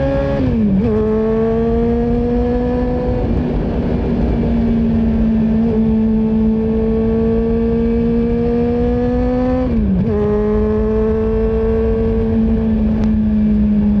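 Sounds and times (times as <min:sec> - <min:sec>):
motorcycle engine revving: 0:00.0 - 0:14.0
wind rumble on microphone: 0:00.0 - 0:14.0.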